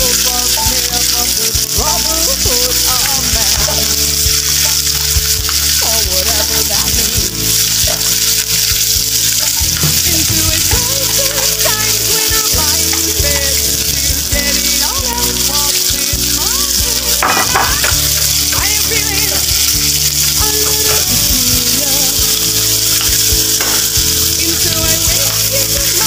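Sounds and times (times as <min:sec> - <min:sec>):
oil sizzling in frying pans: 0:00.0 - 0:26.0.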